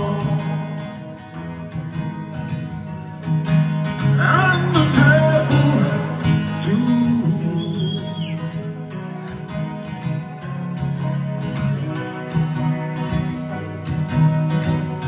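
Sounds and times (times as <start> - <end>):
guitar lead line bending in pitch: 0.0 - 15.0
live rock band playing: 0.0 - 15.0.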